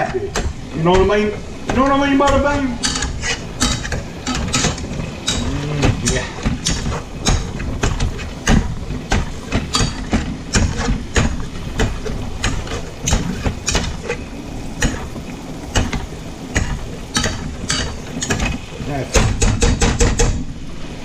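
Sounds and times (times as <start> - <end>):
masher clacking against frying pan: 0.0 - 14.1, 14.7 - 20.4.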